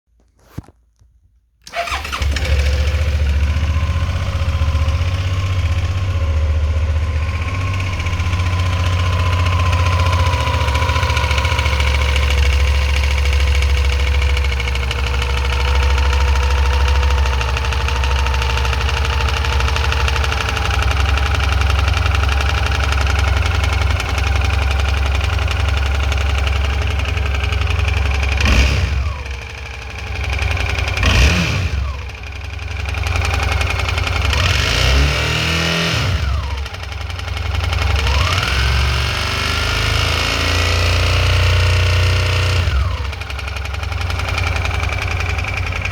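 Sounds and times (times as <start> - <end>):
motorcycle engine starting and idling: 1.6 - 45.9.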